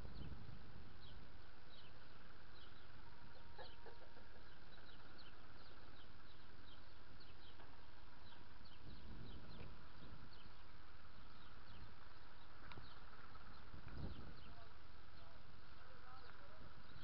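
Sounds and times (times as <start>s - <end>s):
lower bird call: 0.0s - 17.0s
small birds chirping: 0.0s - 17.0s
steady low hum: 0.0s - 17.0s.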